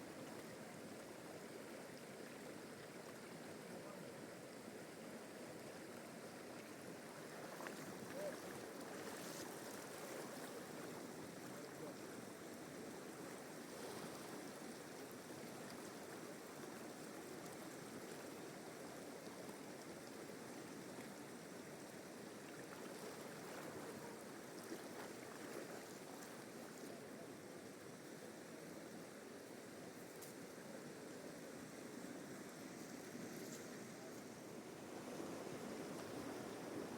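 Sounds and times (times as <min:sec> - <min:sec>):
river water flowing: 0:00.0 - 0:36.9.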